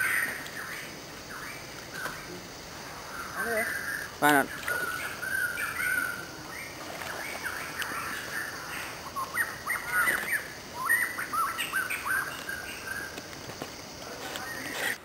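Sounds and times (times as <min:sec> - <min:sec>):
birds chirping: 0:00.0 - 0:13.3.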